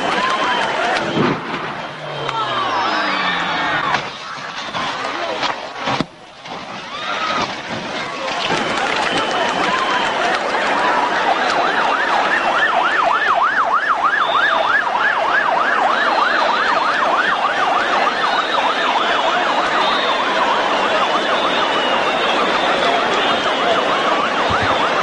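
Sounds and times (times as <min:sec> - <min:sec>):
emergency vehicle siren: 0:00.0 - 0:25.0.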